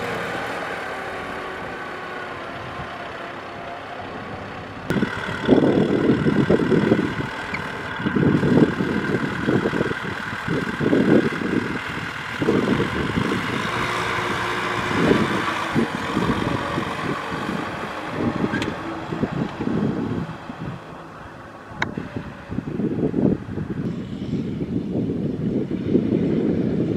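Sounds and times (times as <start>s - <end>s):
tractor diesel engine under load: 0.0s - 26.9s.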